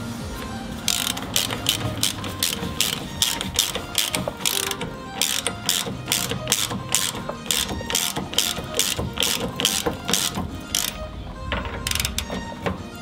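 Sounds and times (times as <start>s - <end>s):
hand ratchet clicking: 0.3s - 13.0s.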